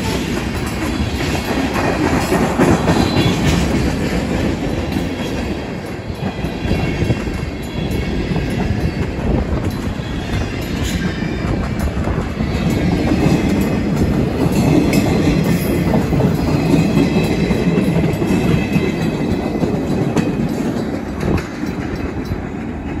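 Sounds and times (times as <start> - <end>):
freight train clattering over rails: 0.0 - 23.0.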